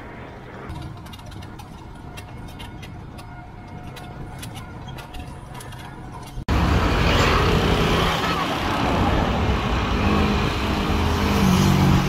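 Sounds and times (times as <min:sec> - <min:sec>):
road and wind rumble: 0:00.0 - 0:12.0.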